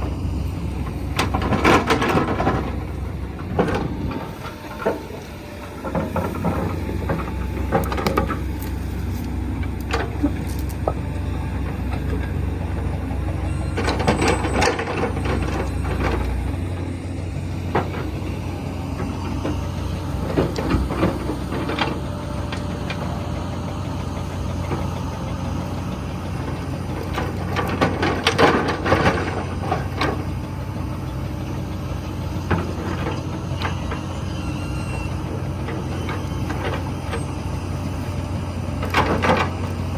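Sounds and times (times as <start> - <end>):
excavator diesel engine running: 0.0 - 39.9
rattling and clanking: 0.1 - 39.9.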